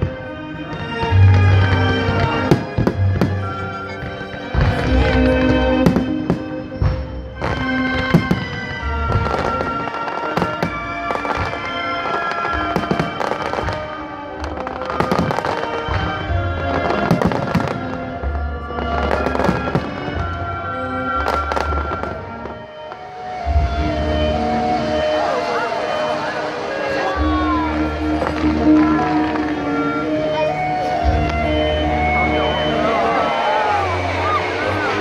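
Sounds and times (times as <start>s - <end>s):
fireworks exploding: 0.0s - 35.0s
music playing: 0.0s - 35.0s.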